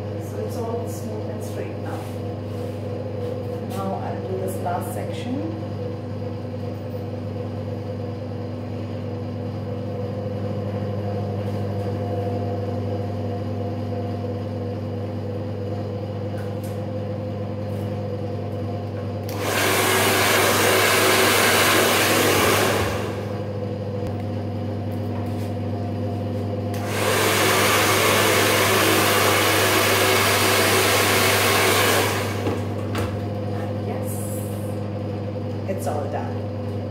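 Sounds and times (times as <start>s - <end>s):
hair dryer running: 0.0s - 6.9s, 9.9s - 24.4s, 25.0s - 36.9s.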